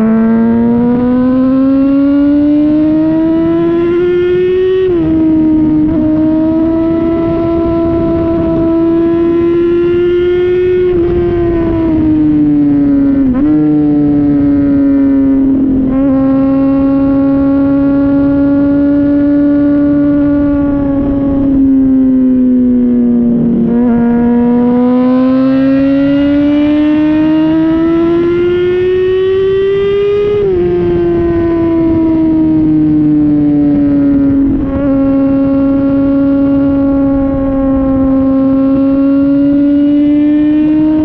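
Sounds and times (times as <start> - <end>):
motorcycle engine while riding: 0.0 - 41.0.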